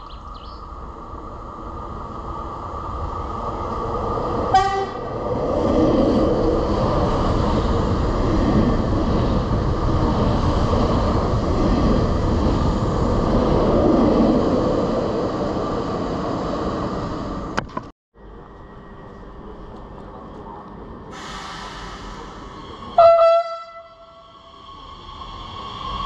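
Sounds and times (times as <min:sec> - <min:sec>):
train passing at speed: 0:00.2 - 0:17.6, 0:18.2 - 0:26.0.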